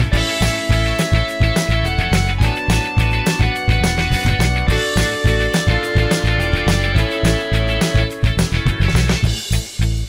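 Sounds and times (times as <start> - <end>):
guitar band music with beat: 0.0 - 10.0.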